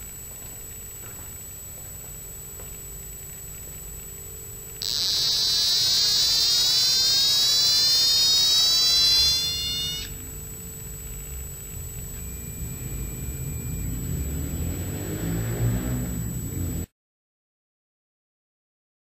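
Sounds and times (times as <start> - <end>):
rapidly pulsing electronic alarm: 1.4 - 16.9.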